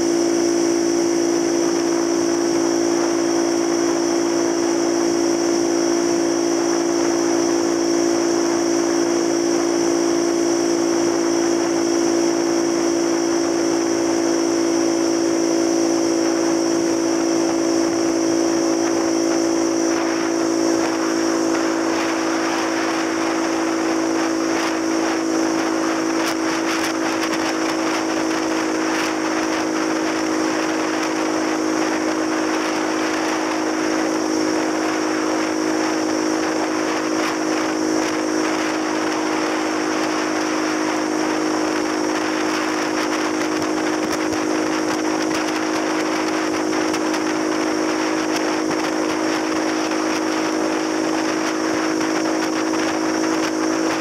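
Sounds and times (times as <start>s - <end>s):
motorcycle engine droning: 0.0s - 54.0s
wind on microphone: 0.0s - 54.0s.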